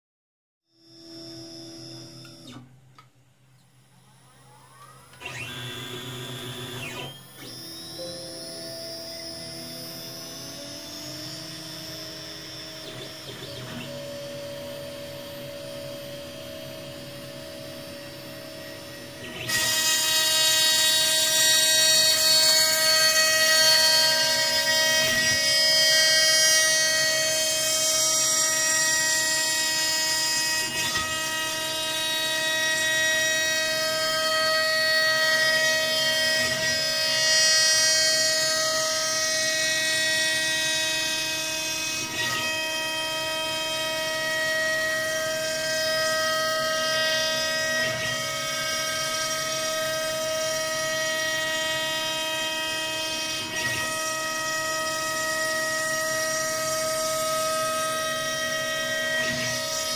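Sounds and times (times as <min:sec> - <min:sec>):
router spindle whine: 0:00.7 - 0:02.8, 0:03.6 - 0:59.9
router cutting wood: 0:00.8 - 0:02.7, 0:04.1 - 0:59.9.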